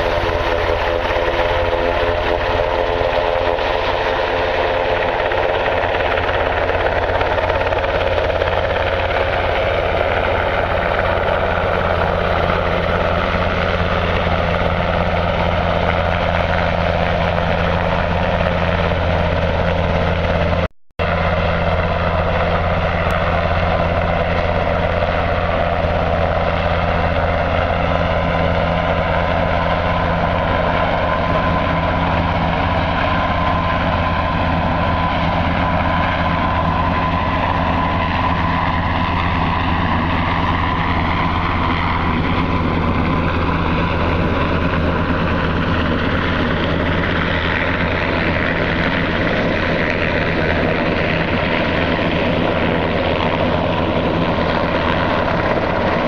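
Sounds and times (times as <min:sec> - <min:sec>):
helicopter rotors droning: 0:00.0 - 0:56.0
high turbine whine: 0:00.0 - 0:56.0.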